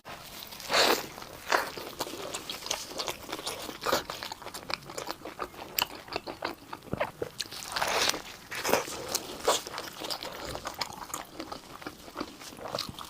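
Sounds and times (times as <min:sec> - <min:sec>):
chewing crisp food: 0:00.1 - 0:13.0.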